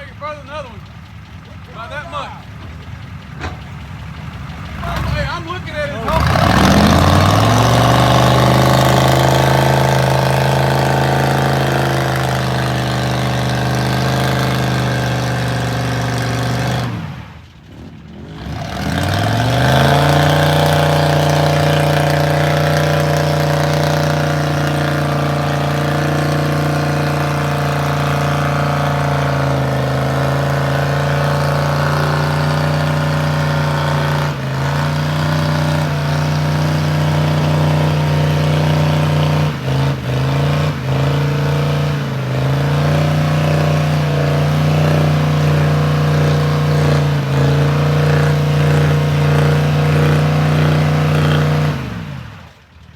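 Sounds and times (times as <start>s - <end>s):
truck engine running: 0.0s - 52.7s.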